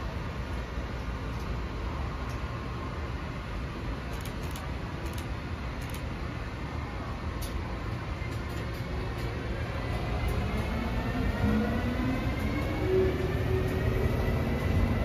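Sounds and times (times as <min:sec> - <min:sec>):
train cars rumbling on rails: 0:00.0 - 0:15.0.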